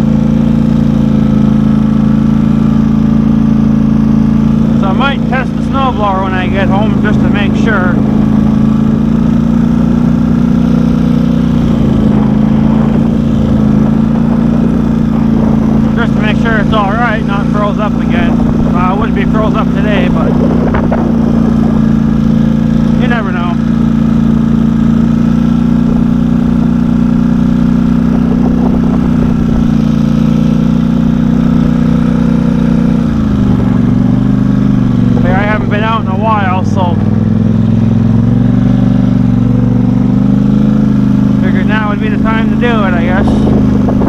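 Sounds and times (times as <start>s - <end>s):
vehicle engine droning: 0.0s - 44.0s.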